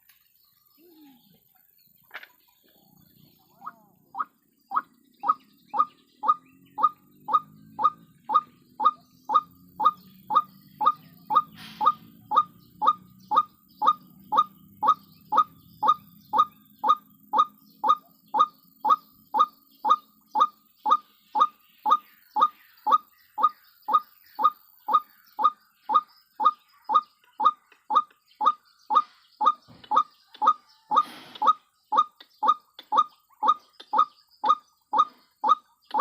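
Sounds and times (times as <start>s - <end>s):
waterhen calling: 3.5s - 36.0s.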